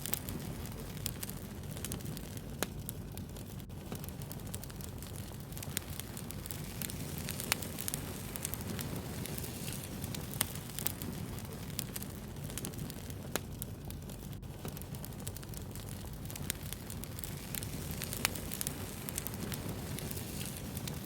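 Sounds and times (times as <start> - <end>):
bonfire rumbling: 0.0 - 21.0
fire crackling and popping: 0.0 - 21.0.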